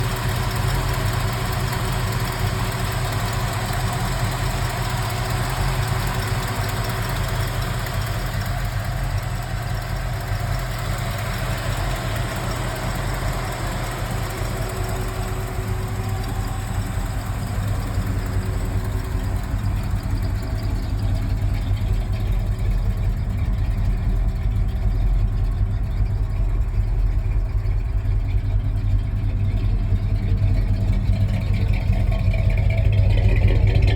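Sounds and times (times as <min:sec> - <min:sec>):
engine idling through exhaust: 0:00.0 - 0:33.9.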